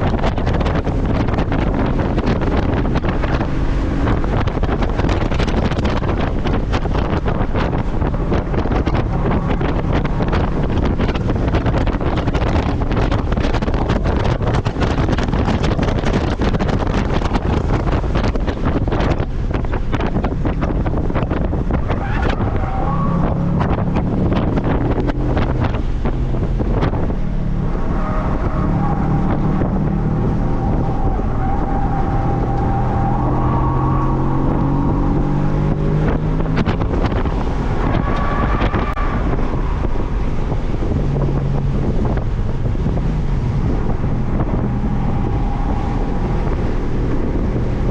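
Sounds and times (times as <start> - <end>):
car engine: 0.0 - 47.9
wind buffeting microphone: 0.0 - 47.9.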